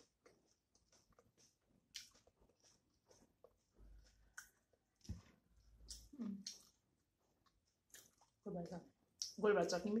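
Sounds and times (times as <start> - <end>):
quiet chewing of food: 0.0 - 9.9.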